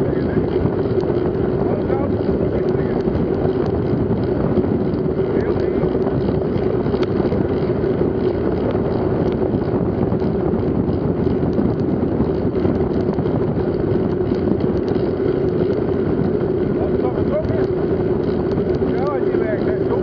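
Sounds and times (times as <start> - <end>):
bike tyres on rough road: 0.0 - 20.0
wind noise on microphone: 0.0 - 20.0.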